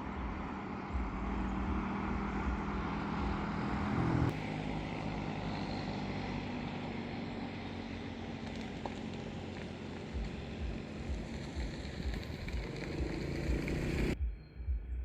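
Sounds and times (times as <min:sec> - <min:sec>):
engine hum: 0:00.0 - 0:15.0.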